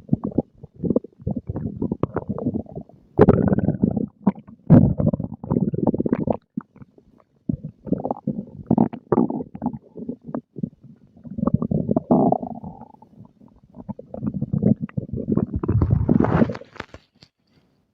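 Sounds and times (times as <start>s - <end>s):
stomach growling and gurgling: 0.0s - 17.1s.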